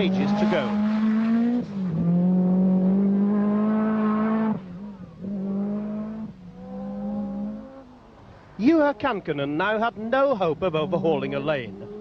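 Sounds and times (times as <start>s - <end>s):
rally car engine at high revs: 0.0s - 7.8s, 10.0s - 12.0s.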